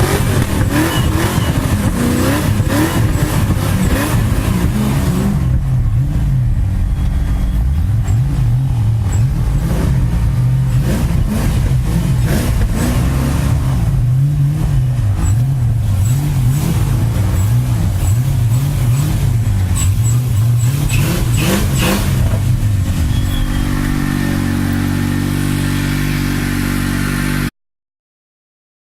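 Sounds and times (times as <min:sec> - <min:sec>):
car engine revving: 0:00.0 - 0:27.5.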